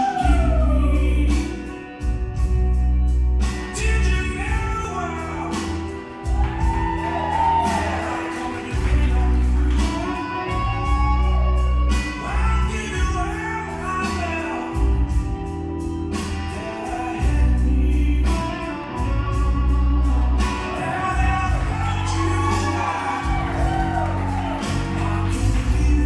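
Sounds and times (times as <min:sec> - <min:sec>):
person singing: 0:00.0 - 0:02.0, 0:03.5 - 0:15.3, 0:16.1 - 0:26.0
heavy bass line: 0:00.0 - 0:26.0.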